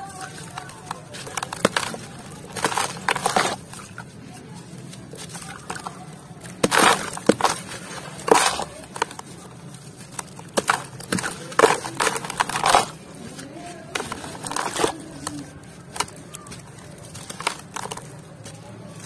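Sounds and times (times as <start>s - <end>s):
grit falling into wet mud: 0.0s - 4.2s, 4.8s - 19.0s
dry earth crunching by hand: 0.0s - 19.0s.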